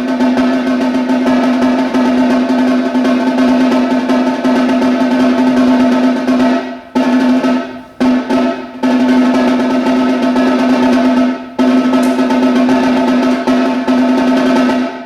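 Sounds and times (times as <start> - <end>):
snare drum rolls: 0.0 - 15.0.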